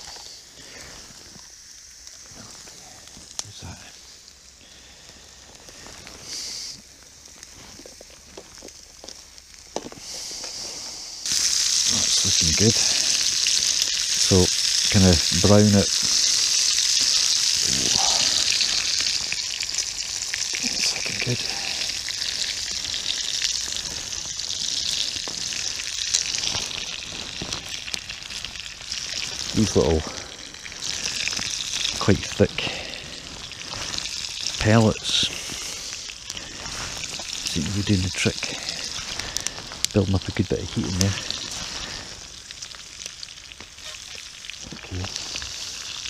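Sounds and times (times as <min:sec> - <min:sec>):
meat sizzling in a frying pan: 0:00.0 - 0:46.0
small pops and crackles: 0:00.0 - 0:46.0.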